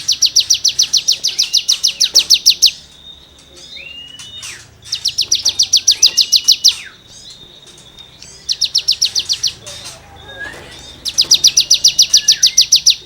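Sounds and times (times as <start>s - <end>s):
songbird scratchy repeated notes: 0.0s - 13.0s.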